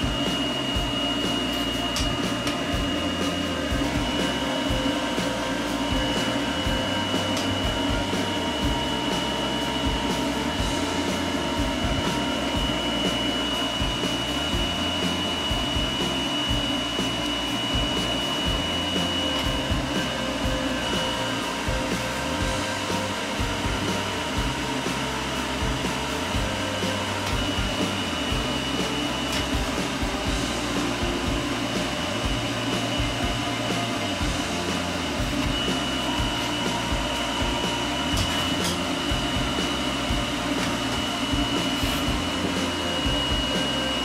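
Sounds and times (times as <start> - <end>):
blower dryer running: 0.0 - 44.0.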